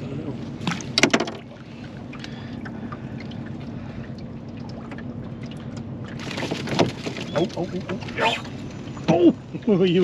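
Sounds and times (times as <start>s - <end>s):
water lapping against boat hull: 0.0s - 9.2s.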